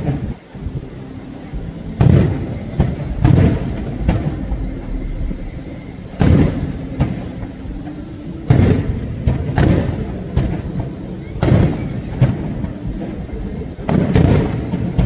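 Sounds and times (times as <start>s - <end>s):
firework booms: 0.0s - 15.0s
lighter firework bangs: 0.0s - 15.0s
rumbling echo: 0.0s - 15.0s.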